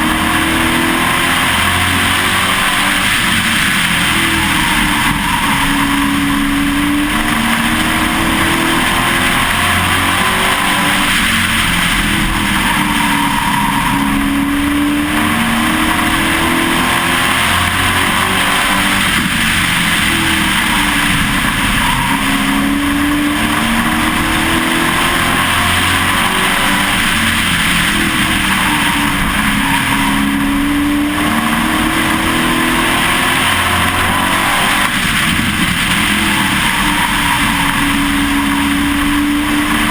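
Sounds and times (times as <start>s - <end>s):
race truck engine: 0.0s - 39.9s
wind and road noise: 0.0s - 39.9s.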